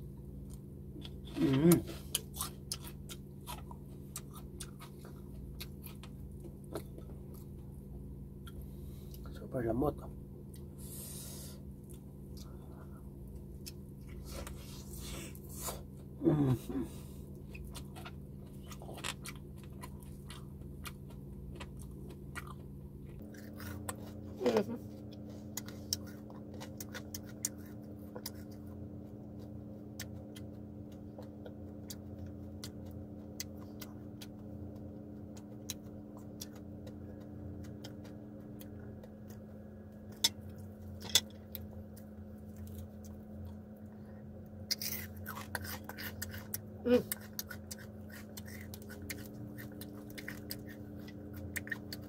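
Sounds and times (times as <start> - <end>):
steady low hum: 0.0 - 52.0
chewing and crunching: 0.3 - 9.4, 11.6 - 52.0.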